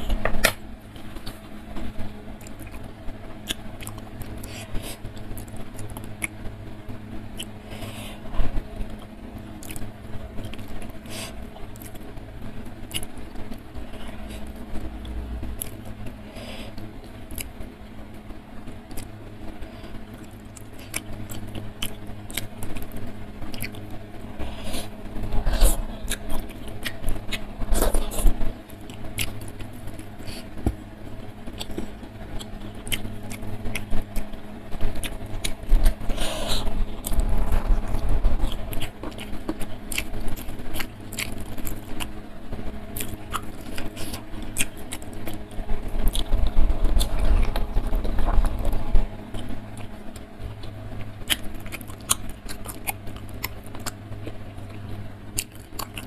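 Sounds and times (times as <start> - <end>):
wet chewing: 0.0 - 6.4, 7.3 - 12.0, 12.8 - 17.6, 18.9 - 56.0
steady low hum: 0.0 - 56.0.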